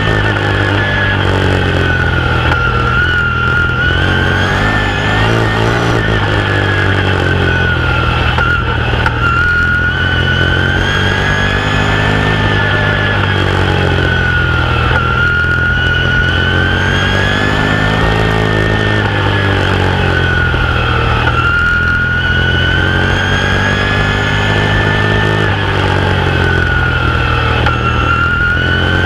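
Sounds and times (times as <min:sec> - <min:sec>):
race car engine at speed: 0:00.0 - 0:29.0.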